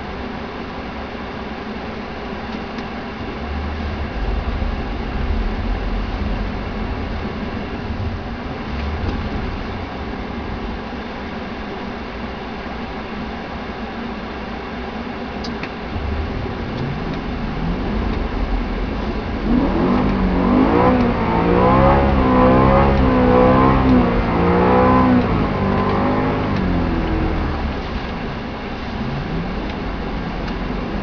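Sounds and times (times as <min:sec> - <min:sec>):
car engine revving: 0:02.0 - 0:13.2, 0:15.1 - 0:31.0.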